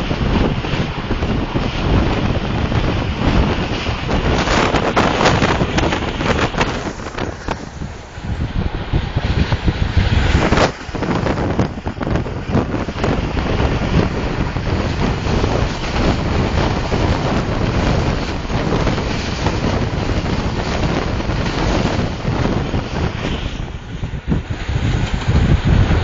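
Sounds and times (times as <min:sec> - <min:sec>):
train wheels on rails: 0:00.0 - 0:26.0
wind buffeting microphone: 0:00.0 - 0:26.0.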